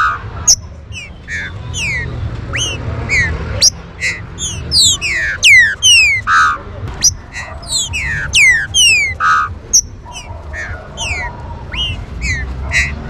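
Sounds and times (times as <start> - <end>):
bird whistled calls: 0.0 - 13.0.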